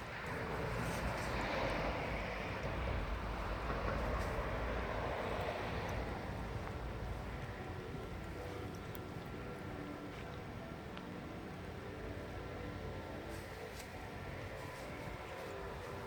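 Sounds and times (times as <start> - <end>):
train rolling on rails: 0.0 - 16.0.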